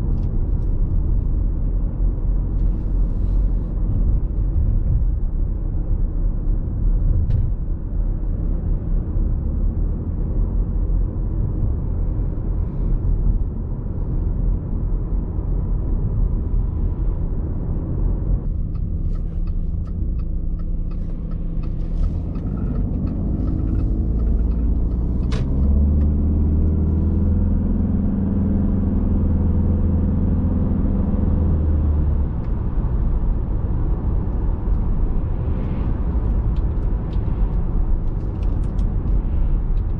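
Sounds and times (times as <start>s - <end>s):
diesel car engine driving: 0.0s - 39.9s
road noise: 0.0s - 39.9s.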